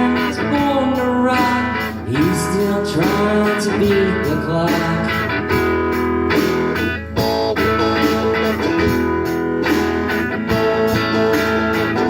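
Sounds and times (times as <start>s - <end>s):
band playing with strummed guitars: 0.0s - 12.0s.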